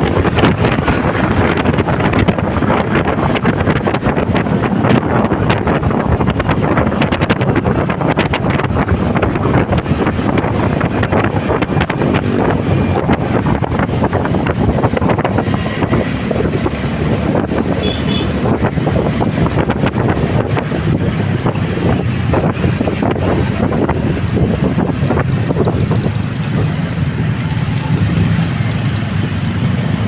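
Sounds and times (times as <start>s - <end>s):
motorcycle engine and road noise: 0.0s - 30.0s
wind buffeting microphone: 0.0s - 30.0s.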